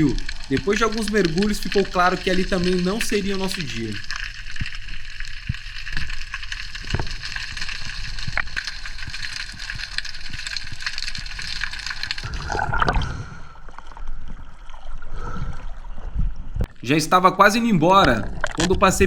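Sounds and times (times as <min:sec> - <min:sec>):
water sloshing and gurgling: 0:00.0 - 0:16.8, 0:18.0 - 0:19.0.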